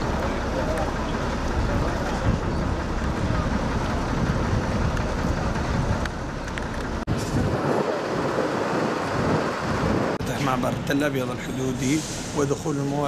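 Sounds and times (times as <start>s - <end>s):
wind rumbling on microphone: 0.0s - 10.9s
vehicle noise: 0.0s - 13.0s.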